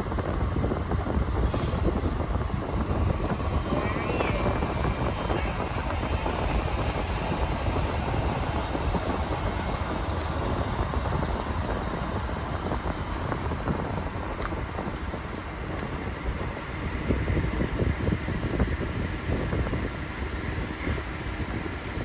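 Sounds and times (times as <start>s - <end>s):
moving vehicle rumble: 0.0s - 22.0s.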